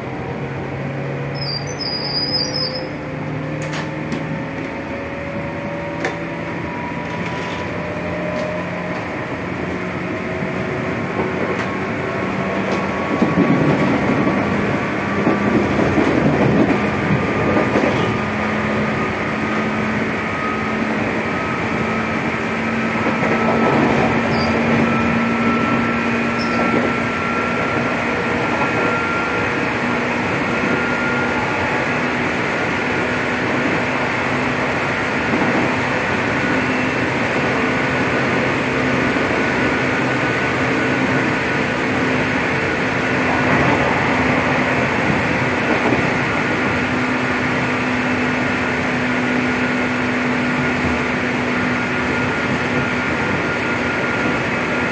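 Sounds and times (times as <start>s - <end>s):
train motor whine and hum: 0.0s - 54.9s
wheels rumbling on rail: 0.0s - 54.9s.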